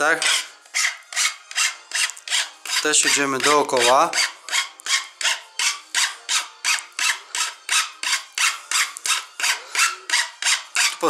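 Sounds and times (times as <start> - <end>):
file rasping on plastic pipe: 0.0 - 11.0.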